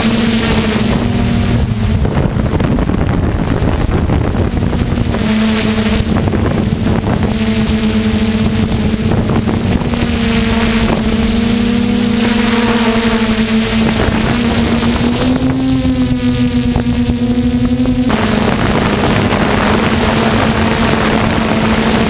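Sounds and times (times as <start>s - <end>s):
drone propellers humming: 0.0s - 22.0s
wind on microphone: 0.0s - 22.0s.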